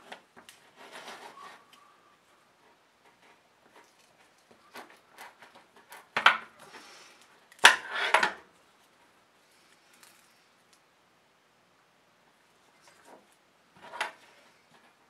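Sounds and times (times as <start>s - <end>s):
faint clicks and rustles: 0.0s - 7.7s, 8.5s - 10.9s, 12.3s - 15.0s.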